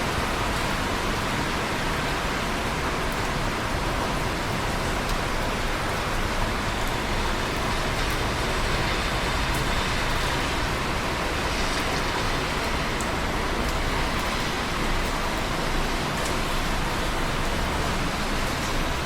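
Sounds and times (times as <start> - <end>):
steady rain hiss: 0.0 - 19.0
faint raindrop ticks: 0.3 - 19.0.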